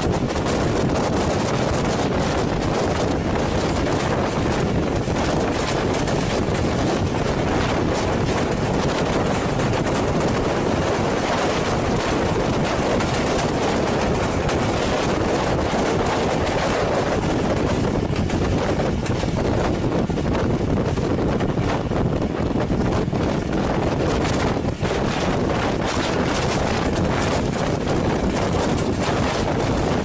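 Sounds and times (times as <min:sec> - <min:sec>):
moving train running noise: 0:00.0 - 0:30.0
wind on microphone: 0:00.0 - 0:30.0.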